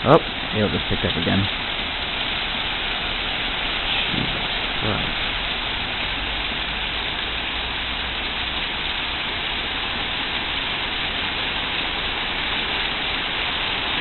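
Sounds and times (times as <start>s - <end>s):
heavy hail and rain: 0.0s - 14.0s.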